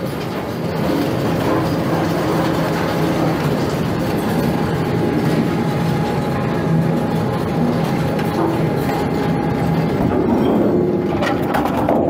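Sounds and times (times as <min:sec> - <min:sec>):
heavy machinery humming: 0:00.0 - 0:12.0.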